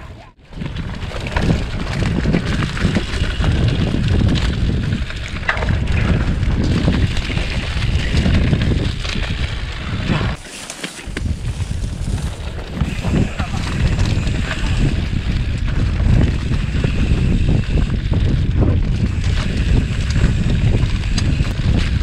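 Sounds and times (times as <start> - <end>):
wind buffeting microphone: 0.0 - 22.0
mountain bike rattling on trail: 0.1 - 22.0.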